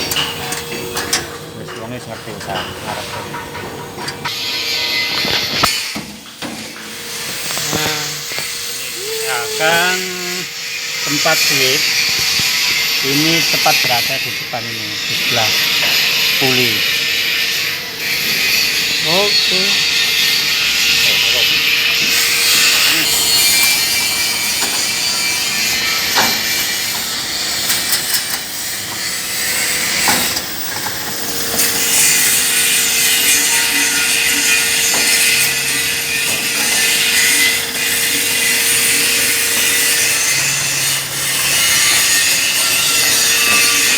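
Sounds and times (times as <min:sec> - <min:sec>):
electric band saw running: 0:00.0 - 0:43.9.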